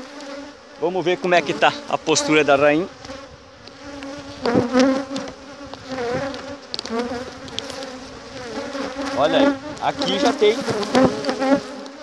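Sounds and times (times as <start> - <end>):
bee colony humming: 0.0 - 12.0
bees flying past: 0.0 - 12.0.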